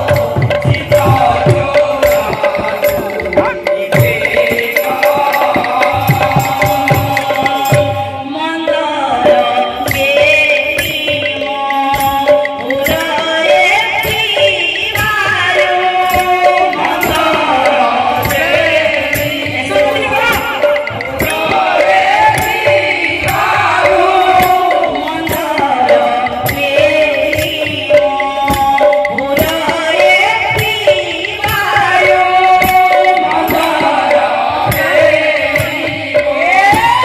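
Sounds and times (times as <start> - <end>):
drums beating steady rhythm: 0.0 - 37.0
woman singing into a microphone: 0.0 - 37.0.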